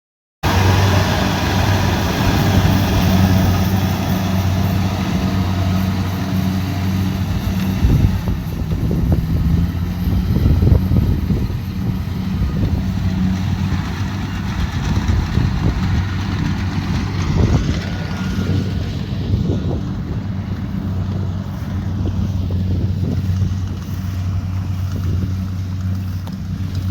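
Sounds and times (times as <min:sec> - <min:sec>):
combine harvester engine humming: 0:00.4 - 0:26.9
machinery rattles and knocks: 0:01.4 - 0:26.9.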